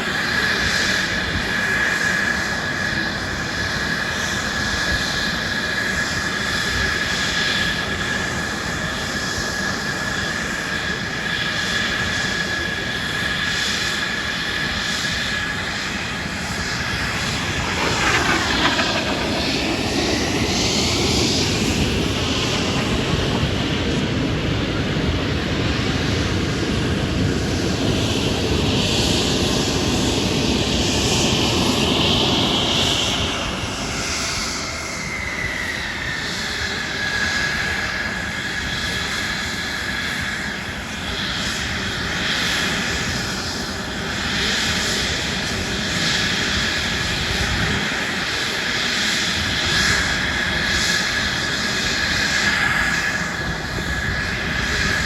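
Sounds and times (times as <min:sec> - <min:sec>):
airplane engine roaring: 0:00.0 - 0:55.0.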